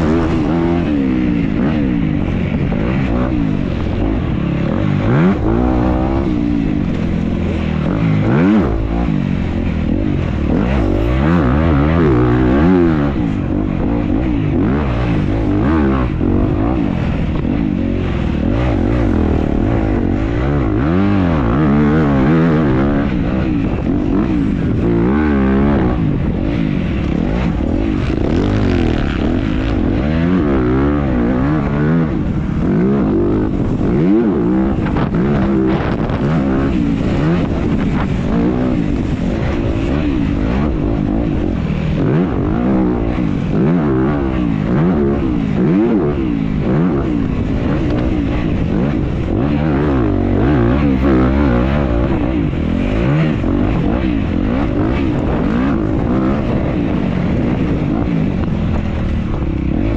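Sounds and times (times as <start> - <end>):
dirt bike engine revving: 0.0 - 59.9
wind noise: 0.0 - 59.9.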